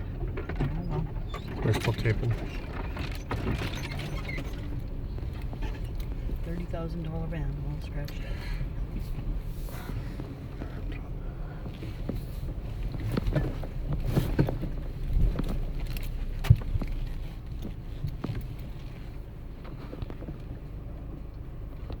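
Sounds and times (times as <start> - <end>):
knocks and rattles over bumps: 0.0 - 9.4, 11.6 - 22.0
van driving on dirt road: 0.0 - 22.0.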